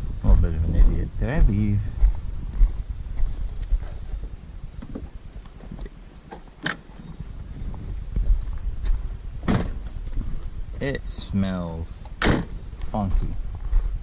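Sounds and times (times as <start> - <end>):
footsteps on hard surface: 0.8 - 10.9, 12.8 - 14.0.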